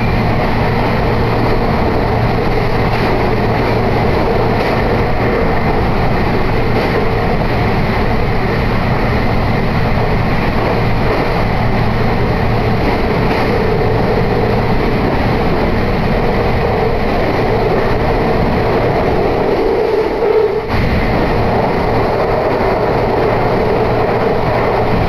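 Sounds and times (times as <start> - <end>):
electric train humming: 0.0 - 25.0
train wheels rumbling: 0.0 - 25.0.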